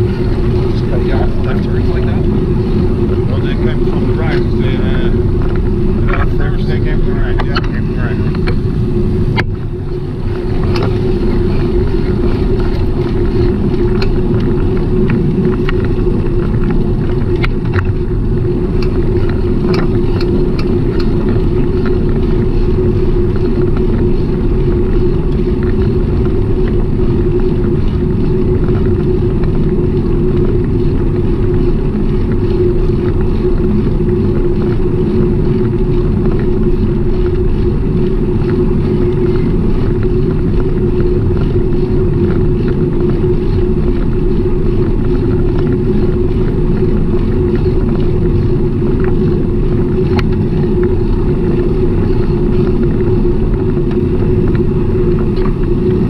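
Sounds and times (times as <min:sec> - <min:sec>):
bicycle wind and road rumble: 0:00.0 - 0:56.0
constant hum: 0:00.0 - 0:56.0.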